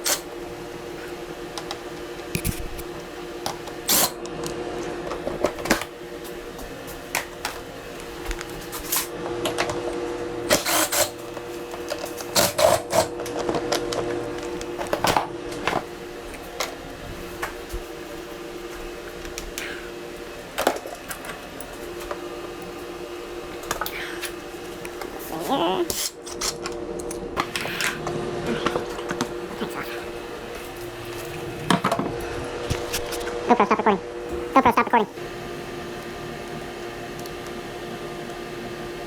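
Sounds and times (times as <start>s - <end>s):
steady hum: 0.0s - 39.0s
hand tools clicking and clanking: 1.0s - 22.8s, 23.5s - 35.2s.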